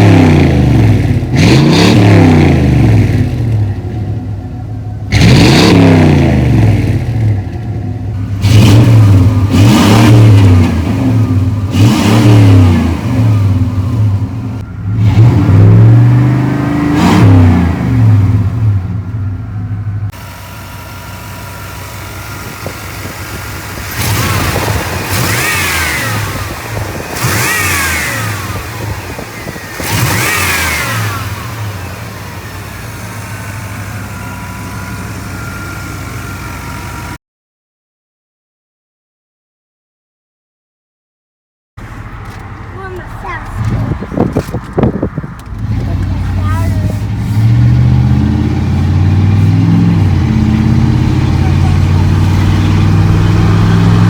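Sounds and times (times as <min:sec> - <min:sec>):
pickup engine accelerating hard: 0:00.0 - 0:37.2, 0:41.8 - 0:54.0.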